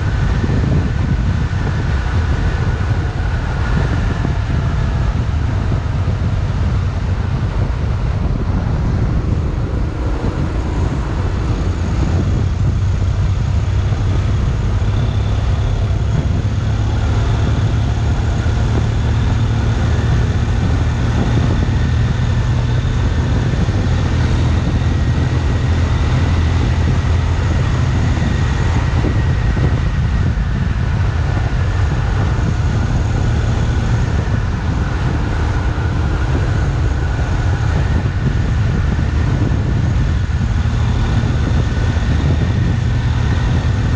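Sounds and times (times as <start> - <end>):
motorcycle engine drone: 0.0 - 43.9
wind buffeting and road noise: 0.0 - 43.9.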